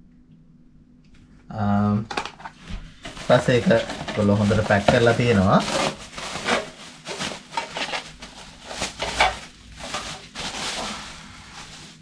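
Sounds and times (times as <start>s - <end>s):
packaging rustling: 2.2s - 12.0s.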